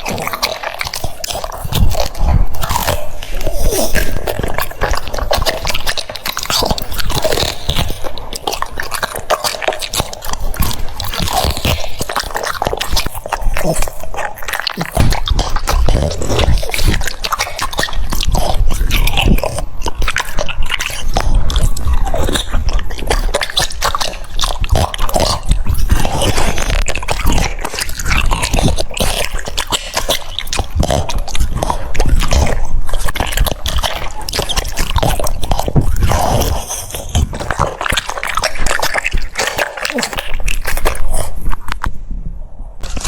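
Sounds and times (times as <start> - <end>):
dog crunching cucumber: 0.0 - 42.0, 42.8 - 43.0.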